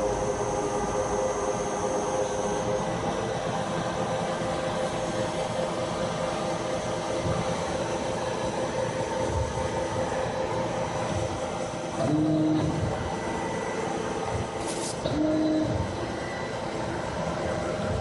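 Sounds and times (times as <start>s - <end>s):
lathe mechanical whine: 0.0s - 18.0s.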